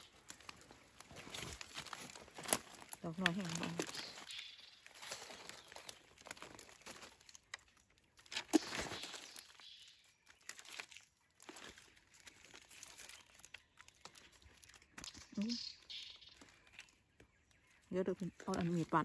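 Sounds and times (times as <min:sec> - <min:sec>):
dry plant matter rustling: 0:00.0 - 0:19.0.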